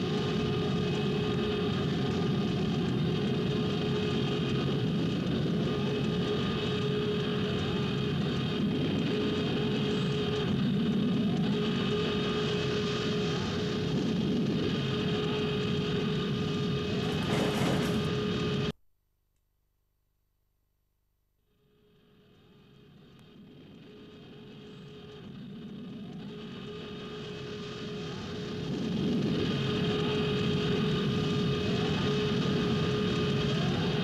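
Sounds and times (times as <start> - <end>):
horror soundtrack drone: 0.0 - 18.7, 23.5 - 34.0.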